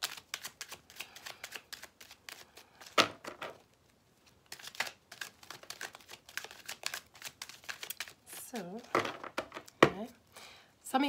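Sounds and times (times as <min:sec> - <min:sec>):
cards being shuffled: 0:00.0 - 0:09.9.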